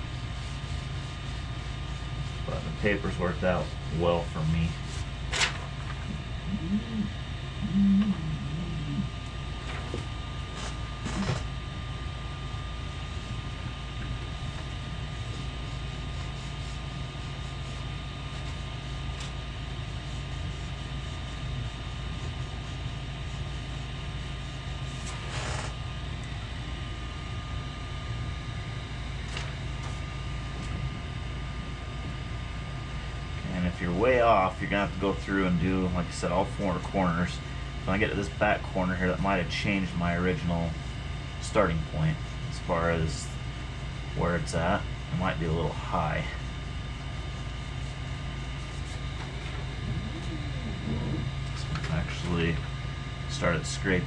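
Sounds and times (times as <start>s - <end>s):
fan hum with whining tones: 0.0s - 54.0s.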